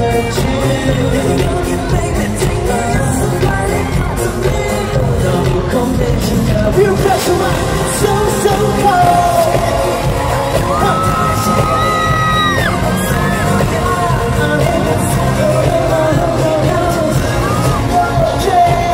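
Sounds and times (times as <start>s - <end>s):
live pop music: 0.0s - 18.9s
man singing into microphone: 0.0s - 18.9s.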